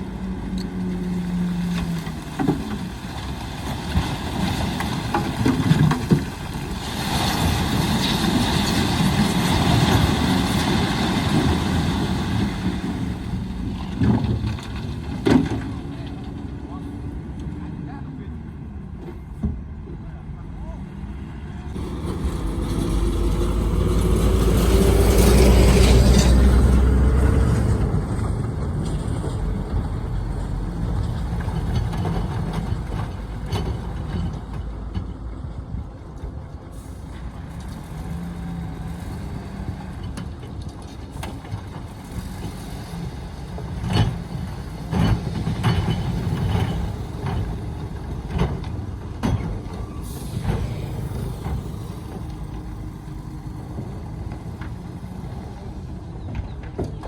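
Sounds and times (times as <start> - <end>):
diesel truck engine rumbling: 0.0 - 57.0.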